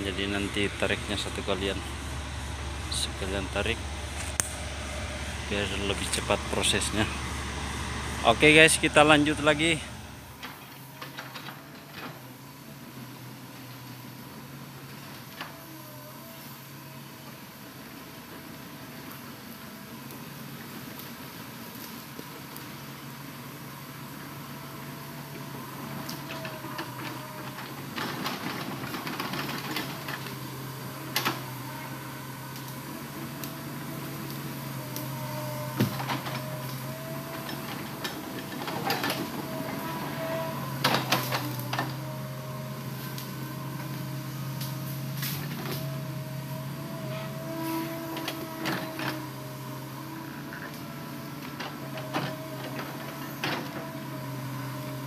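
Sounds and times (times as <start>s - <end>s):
excavator engine hum with whine: 0.0s - 55.0s.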